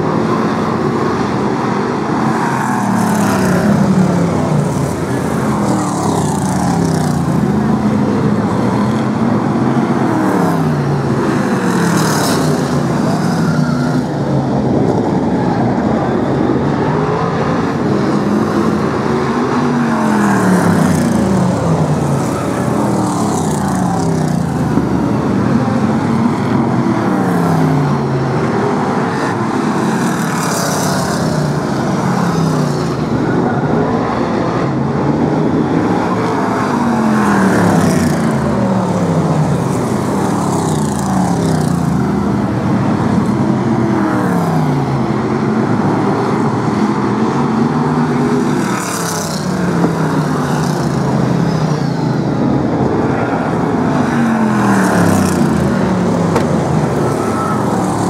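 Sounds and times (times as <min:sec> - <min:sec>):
racing car engines passing: 0:00.0 - 0:58.0.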